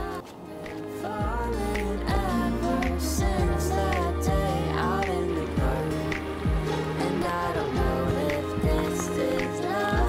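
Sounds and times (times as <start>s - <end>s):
pop song with drums and bass: 0.0s - 10.0s.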